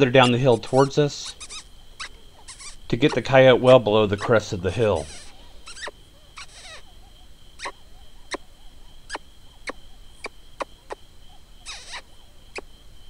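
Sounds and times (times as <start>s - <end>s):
mouth-made mouse-like squeaks: 0.2s - 11.0s, 11.6s - 12.7s.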